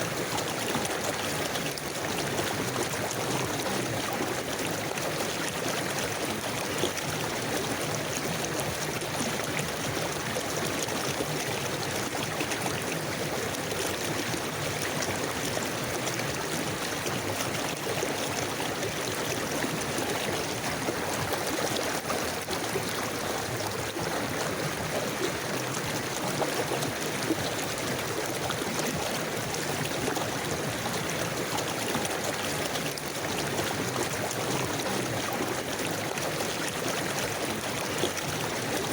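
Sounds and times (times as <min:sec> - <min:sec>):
river water rushing over stones: 0:00.0 - 0:38.9.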